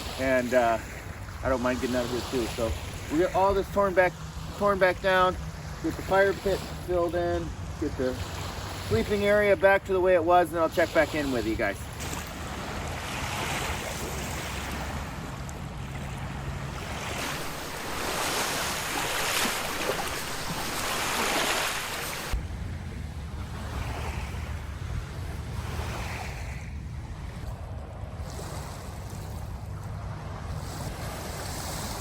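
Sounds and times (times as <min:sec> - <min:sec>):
waves washing on beach: 0:00.0 - 0:27.5.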